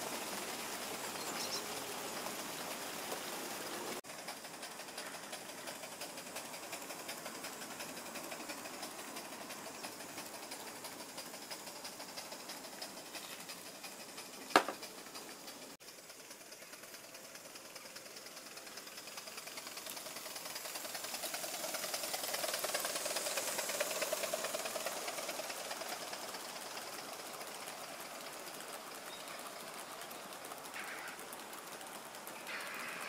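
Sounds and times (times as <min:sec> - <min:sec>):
model steam train clattering: 0:00.0 - 0:33.0.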